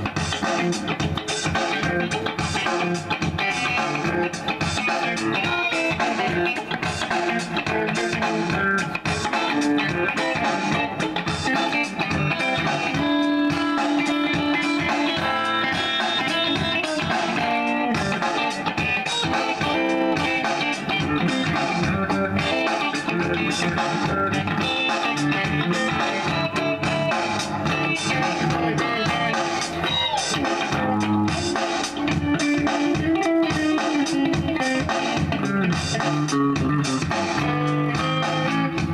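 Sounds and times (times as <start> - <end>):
electric bass guitar plucked: 0.0 - 38.9
guitar music: 0.0 - 38.9.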